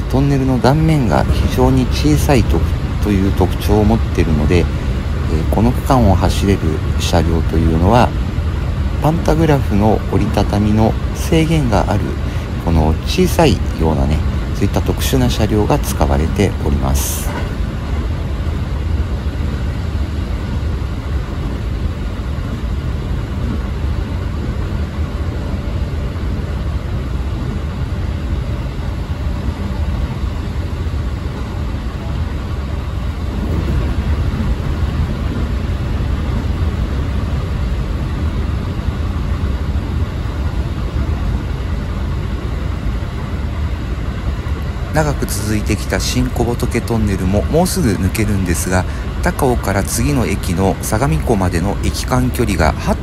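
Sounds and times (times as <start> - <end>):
train wheels rumbling on rail: 0.0 - 53.0
tunnel roar: 0.0 - 53.0.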